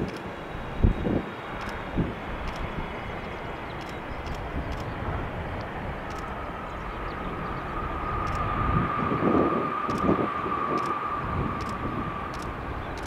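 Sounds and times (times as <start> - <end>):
jet engine high whine: 0.0 - 13.0
jet engines rumbling: 0.0 - 13.0.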